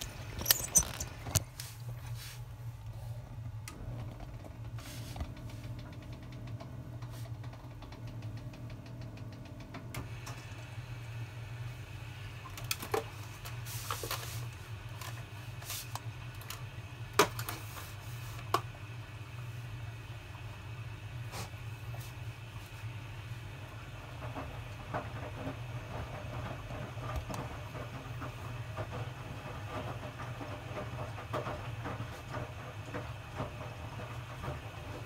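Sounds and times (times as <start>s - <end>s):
washing machine hum: 0.0s - 35.0s.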